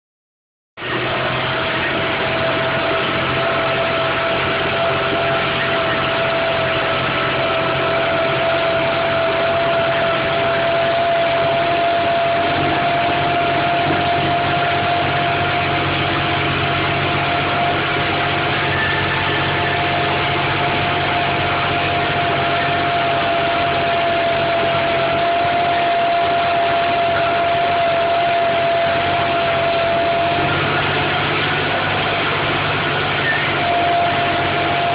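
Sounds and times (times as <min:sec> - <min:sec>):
constant whine: 0:00.8 - 0:34.9
tractor engine running: 0:00.8 - 0:34.9.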